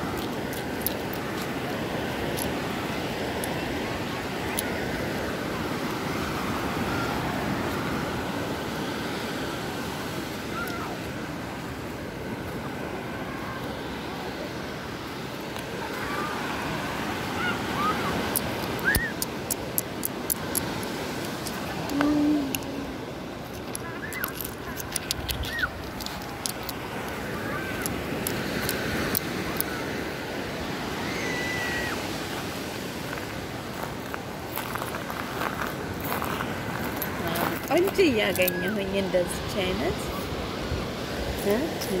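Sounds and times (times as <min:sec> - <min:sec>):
ocean surf on beach: 0:00.0 - 0:42.0.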